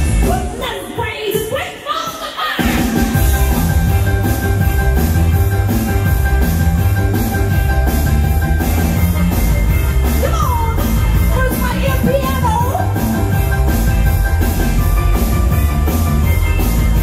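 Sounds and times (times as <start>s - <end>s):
live rock and roll band: 0.0s - 17.0s.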